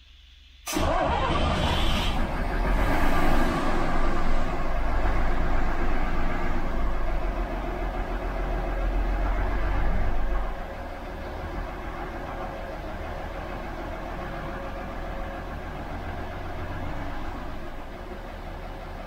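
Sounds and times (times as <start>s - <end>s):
bus diesel engine running: 0.6s - 19.0s.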